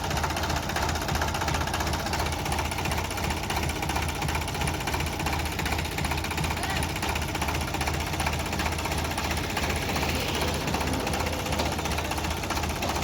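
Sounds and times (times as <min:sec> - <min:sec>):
diesel engine clattering: 0:00.0 - 0:13.0.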